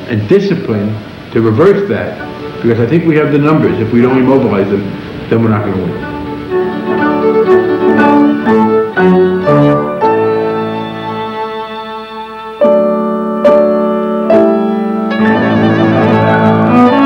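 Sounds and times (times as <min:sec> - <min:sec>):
slow piano and violin music: 0:01.0 - 0:17.0.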